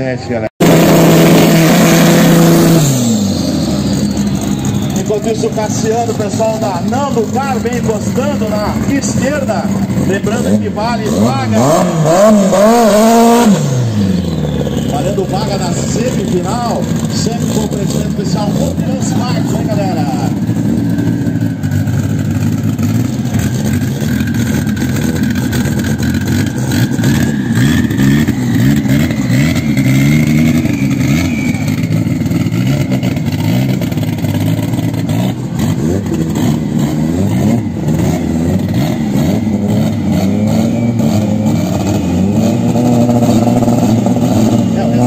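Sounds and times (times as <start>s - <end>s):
race car engines revving: 0.0s - 45.0s.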